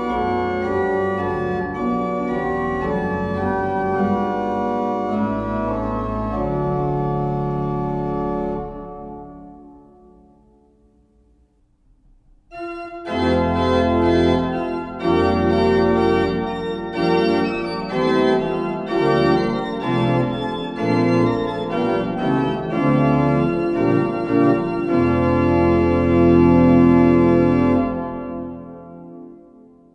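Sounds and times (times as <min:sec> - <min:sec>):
organ chords over deep bass: 0:00.0 - 0:09.8, 0:12.5 - 0:29.3.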